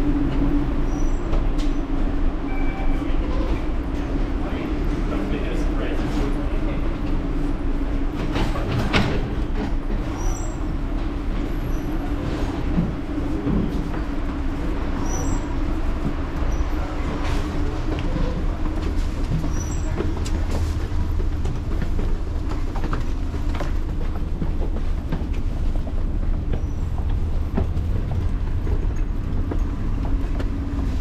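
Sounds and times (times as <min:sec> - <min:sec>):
metro train rumble: 0:00.0 - 0:31.0.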